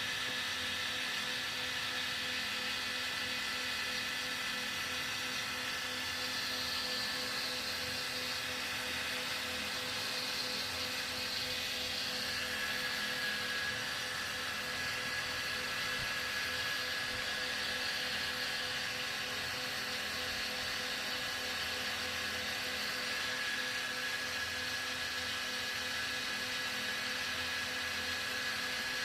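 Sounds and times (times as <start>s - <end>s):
cotton candy machine whirring: 0.0s - 29.0s.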